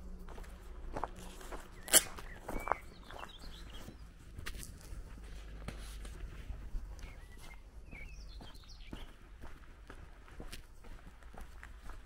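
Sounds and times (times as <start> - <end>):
footsteps on gravel: 0.0 - 12.0
small birds chirping: 0.3 - 12.0.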